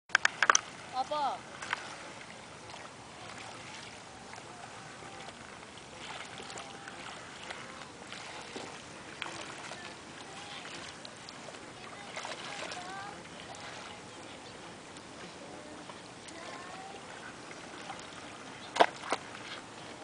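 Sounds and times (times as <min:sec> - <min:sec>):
small water splashes: 0:00.1 - 0:20.0
water sloshing against board: 0:00.1 - 0:20.0.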